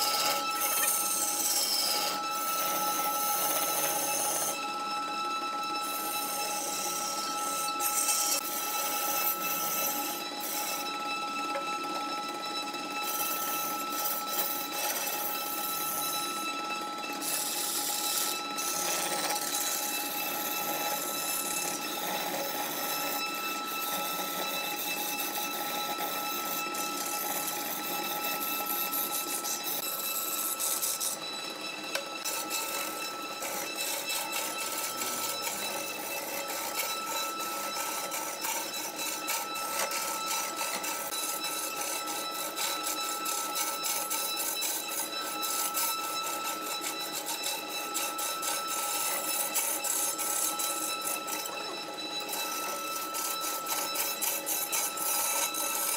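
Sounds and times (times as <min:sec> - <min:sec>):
gouge scraping spinning wood: 0:00.0 - 0:55.9
wood lathe whine: 0:00.0 - 0:55.9.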